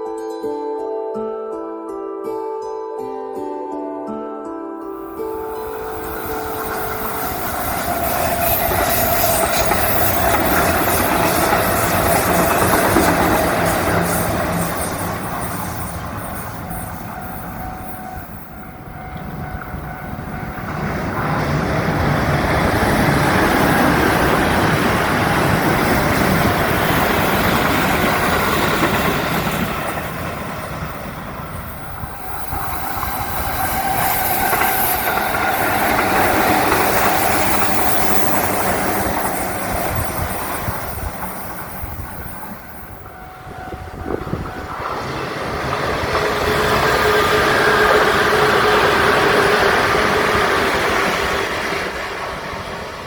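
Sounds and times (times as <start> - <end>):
train wheels squealing on rails: 5.0 - 53.0
train clattering over track: 5.2 - 53.0.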